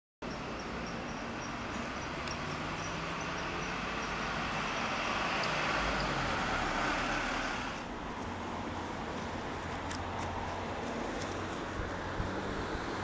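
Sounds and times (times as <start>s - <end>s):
road traffic hum: 0.2s - 13.0s
vehicle passing: 0.4s - 13.0s.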